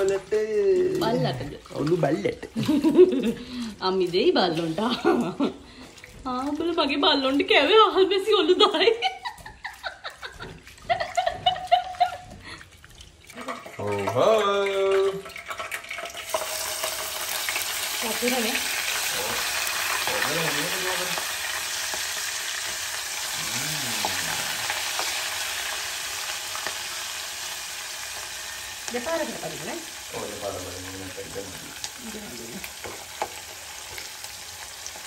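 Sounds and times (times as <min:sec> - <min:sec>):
fish sizzling in hot oil: 0:00.0 - 0:35.0.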